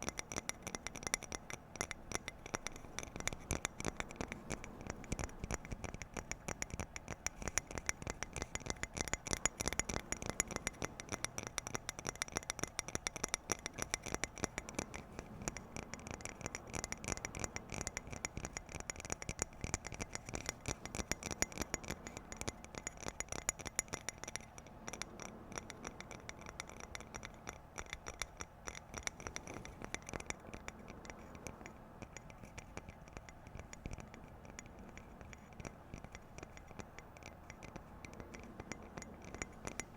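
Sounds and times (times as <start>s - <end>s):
fast light tapping and scratching: 0.0s - 39.9s.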